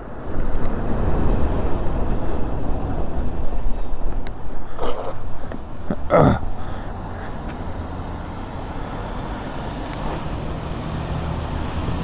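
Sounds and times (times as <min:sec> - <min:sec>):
steady rumble: 0:00.0 - 0:10.4
wind buffeting microphone: 0:00.0 - 0:12.0.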